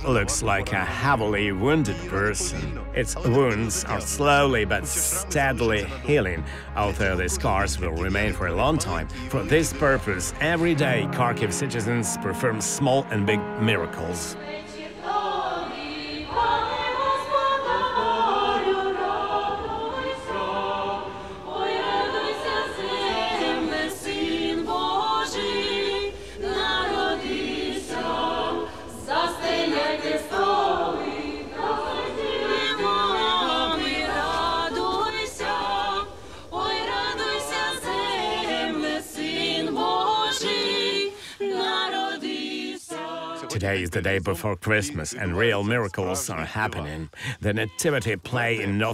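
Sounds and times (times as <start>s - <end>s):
choir singing a carol: 0.0s - 47.0s.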